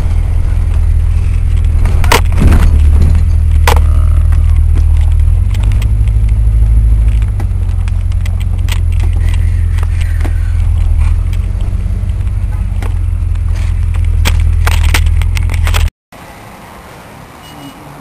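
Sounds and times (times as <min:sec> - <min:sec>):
car engine and road rumble: 0:00.0 - 0:18.0
knocks and rattles: 0:00.7 - 0:15.9.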